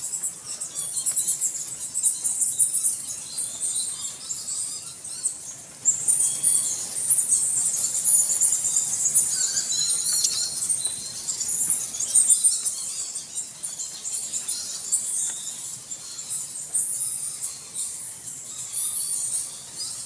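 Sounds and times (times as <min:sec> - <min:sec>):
bats squeaking and chirping: 0:00.0 - 0:20.0.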